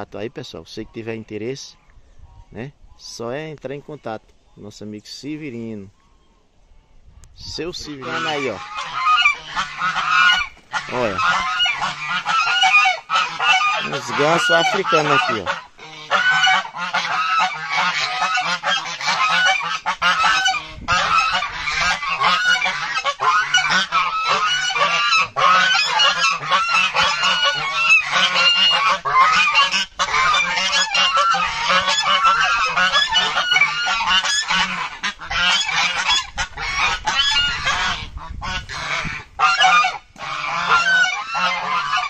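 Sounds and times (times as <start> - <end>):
geese honking: 7.6 - 42.0.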